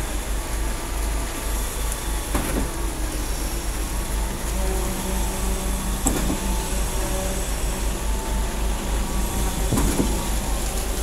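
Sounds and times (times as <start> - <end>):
concrete pump engine drone: 0.0 - 11.0.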